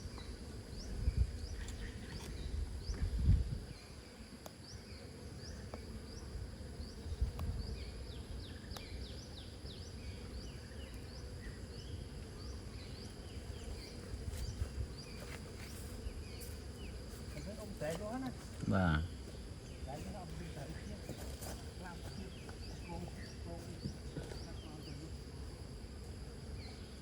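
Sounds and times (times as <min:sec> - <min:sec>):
high insect whine: 0:00.0 - 0:27.0.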